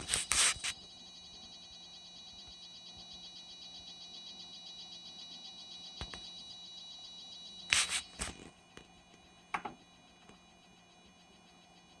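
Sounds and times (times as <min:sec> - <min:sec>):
cooling fan whine and hum: 0:00.0 - 0:12.0.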